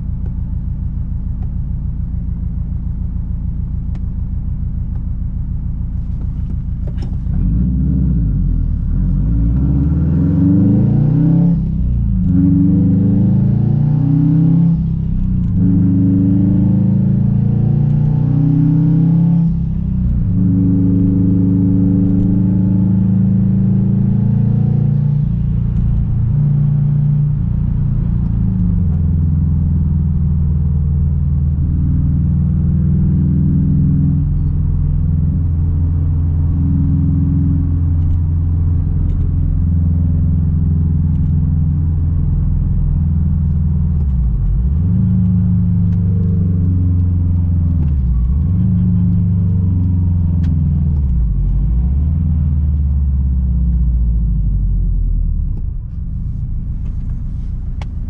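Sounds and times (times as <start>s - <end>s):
turbocharged car engine under load: 0.0s - 58.0s.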